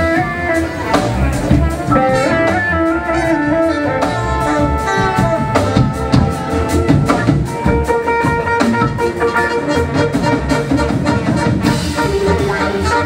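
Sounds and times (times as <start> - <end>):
drum kit: 0.0 - 13.0
electric guitar: 0.0 - 13.0
held instrument notes: 0.0 - 13.0.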